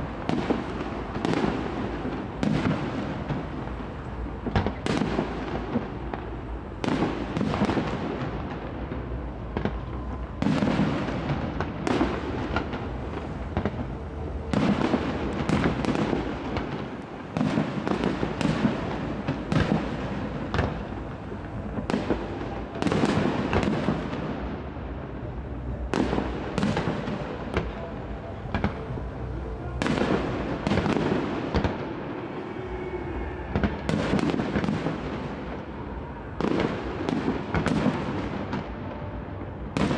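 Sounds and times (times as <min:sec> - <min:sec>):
fireworks crackle: 0:00.0 - 0:39.9
fireworks rumble: 0:00.0 - 0:39.9.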